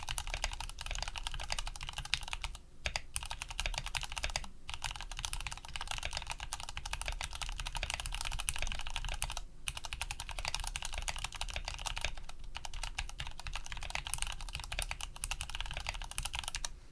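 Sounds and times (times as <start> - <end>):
fast typing on mechanical keyboard: 0.0 - 16.7.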